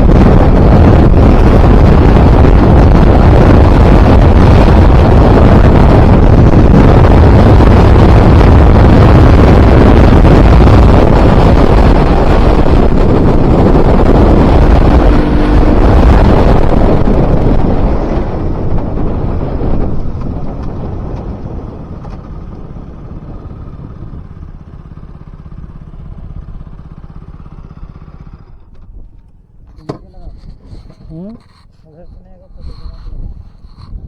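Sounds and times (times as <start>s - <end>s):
motorcycle engine: 0.0s - 34.0s
wind buffeting microphone: 0.0s - 34.0s.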